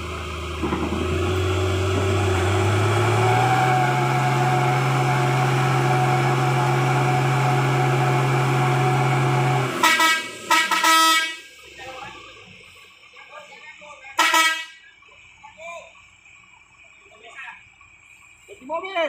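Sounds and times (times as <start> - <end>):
truck diesel engine straining: 0.0 - 19.0.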